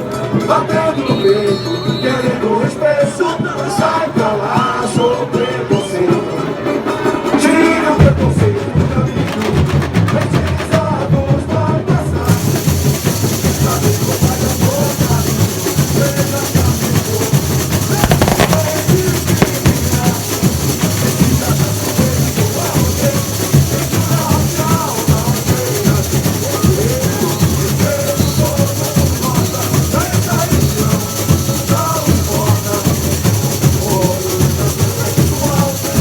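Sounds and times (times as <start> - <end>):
samba drums and percussion: 0.0 - 36.0.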